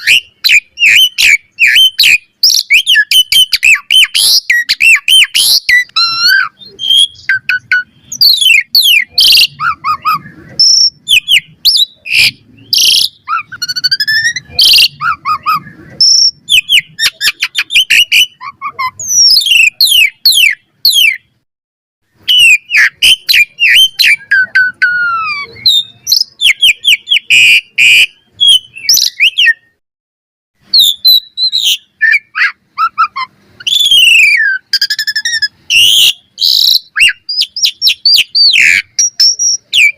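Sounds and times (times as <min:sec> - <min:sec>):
starling singing whistles and chirps: 0:00.0 - 0:21.3, 0:22.2 - 0:29.8, 0:30.7 - 0:39.9.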